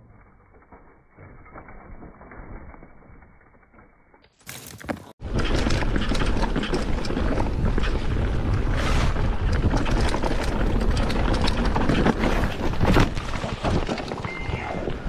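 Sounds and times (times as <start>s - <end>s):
bike knocking and rattling over stones: 0.5s - 14.5s.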